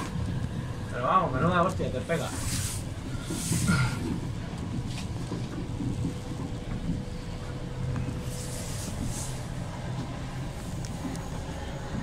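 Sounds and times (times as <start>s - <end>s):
diesel train rumbling on rails: 0.0s - 12.0s.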